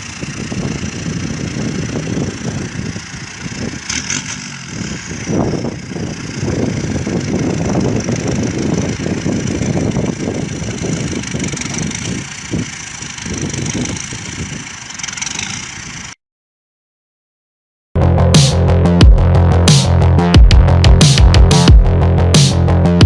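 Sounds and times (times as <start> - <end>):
vehicle engine rumbling: 0.0 - 16.2, 18.0 - 23.0.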